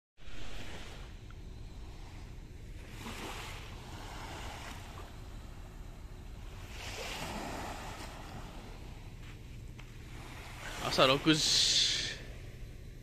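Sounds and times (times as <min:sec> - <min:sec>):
small waves washing onto sand: 0:00.2 - 0:12.4.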